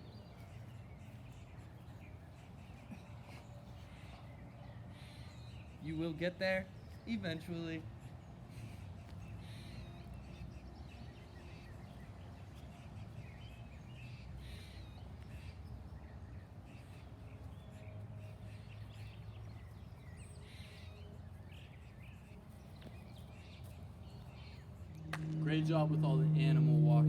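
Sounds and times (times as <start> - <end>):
birds chirping: 0.0 - 27.0
low steady background rumble: 0.0 - 27.0.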